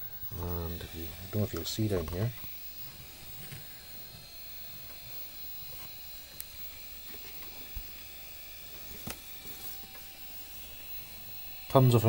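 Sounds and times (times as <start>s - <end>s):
electrical hum with high whine: 0.0s - 12.0s.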